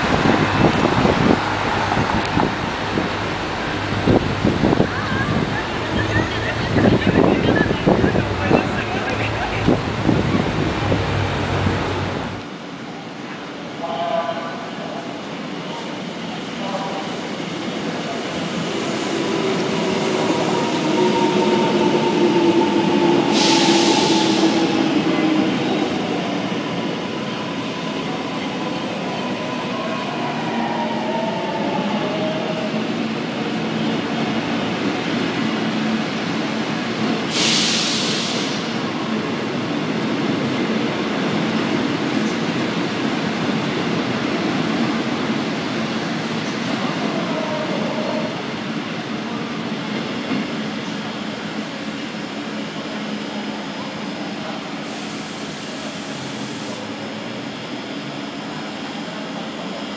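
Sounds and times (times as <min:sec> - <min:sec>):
train wheels rumbling on rail: 0:00.0 - 0:13.4, 0:14.6 - 0:59.9
train whine: 0:00.0 - 0:59.9.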